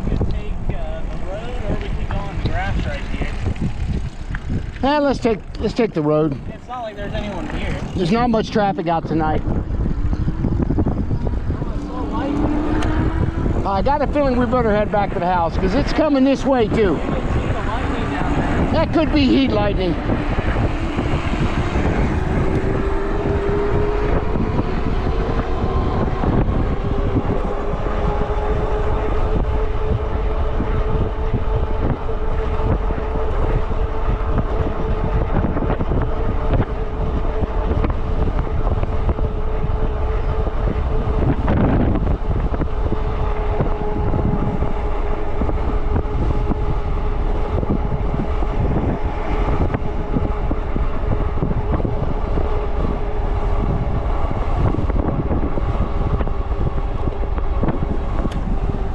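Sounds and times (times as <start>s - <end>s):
electric bike motor whine: 0.0s - 58.9s
wind buffeting microphone: 0.0s - 58.9s.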